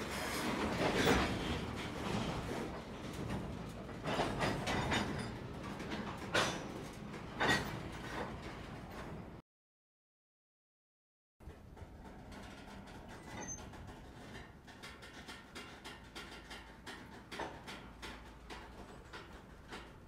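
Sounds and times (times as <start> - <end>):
freight train wheels rumbling: 0.0 - 9.4, 11.4 - 20.0
train cars clanking: 0.0 - 9.4, 11.4 - 20.0.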